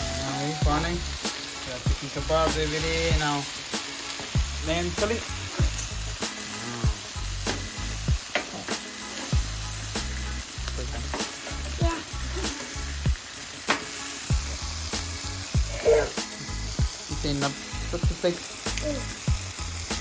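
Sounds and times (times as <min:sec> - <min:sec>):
meat sizzling on a barbecue: 0:00.0 - 0:20.0.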